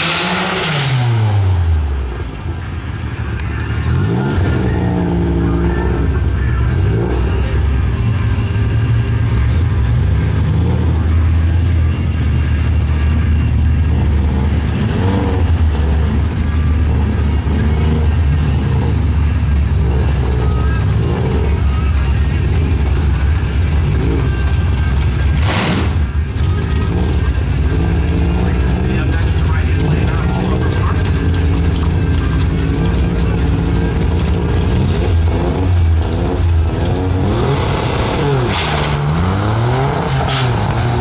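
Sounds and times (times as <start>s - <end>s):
car engine revving and idling: 0.0s - 41.0s.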